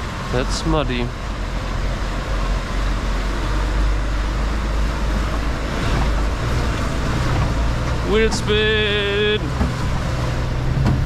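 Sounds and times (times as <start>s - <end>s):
truck diesel engine droning: 0.0s - 11.0s
tyre and chassis noise on mud: 0.0s - 11.0s.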